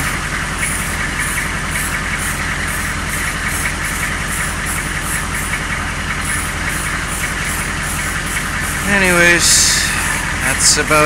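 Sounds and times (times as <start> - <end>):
car engine idling with clatter: 0.0 - 11.0.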